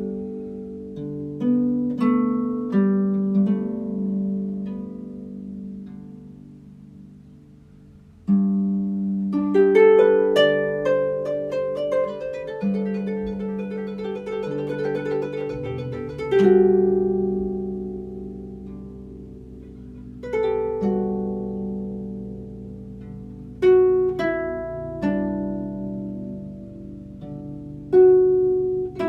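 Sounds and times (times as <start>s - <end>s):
harp music: 0.0s - 29.0s.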